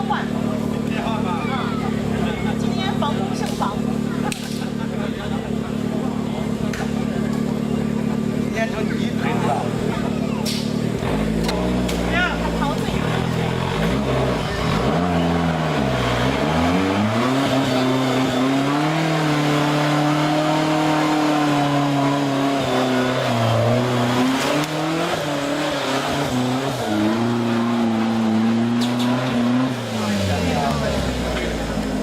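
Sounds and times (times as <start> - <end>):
off-road engine revving: 0.0 - 32.0.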